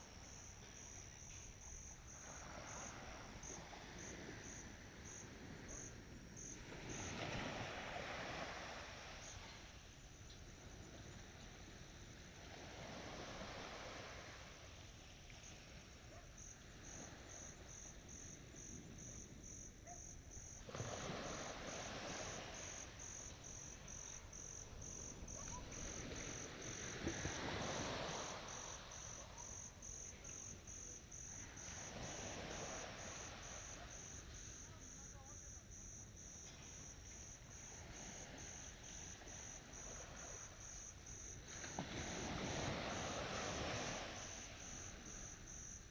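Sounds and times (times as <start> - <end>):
insect chirping: 0.0 - 45.9
ocean waves washing ashore: 0.0 - 45.9.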